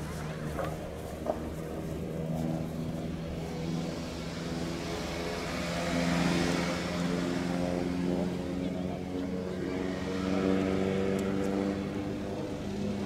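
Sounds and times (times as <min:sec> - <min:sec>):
propeller airplane droning overhead: 0:00.0 - 0:13.0.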